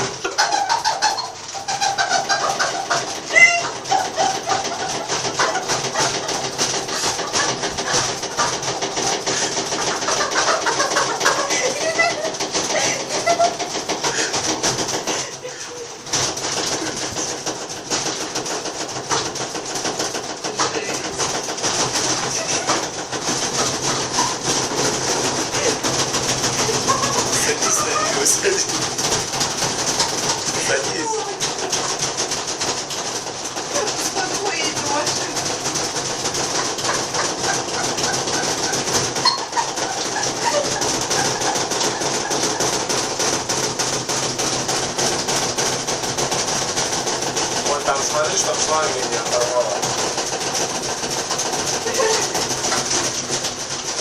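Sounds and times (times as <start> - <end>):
washing machine rattling and knocking: 0.0 - 54.0
washing machine spin hum: 0.0 - 54.0.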